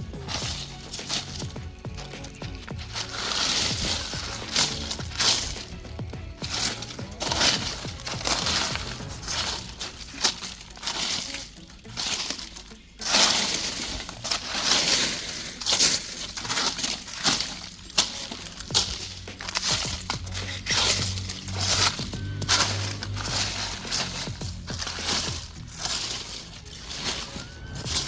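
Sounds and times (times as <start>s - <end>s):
dry leaves crunching: 0.0s - 28.0s.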